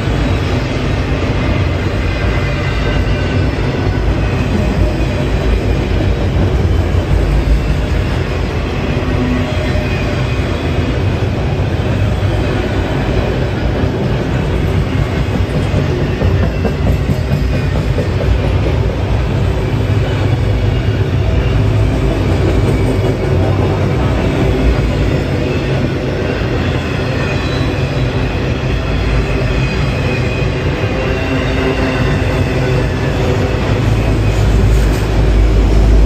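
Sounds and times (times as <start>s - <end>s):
freight train wheels rumbling on rails: 0.0s - 36.0s.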